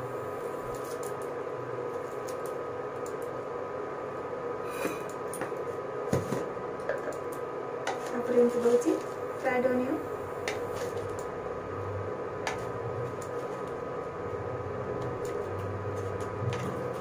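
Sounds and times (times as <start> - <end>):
machine hum with thin tones: 0.0 - 17.0.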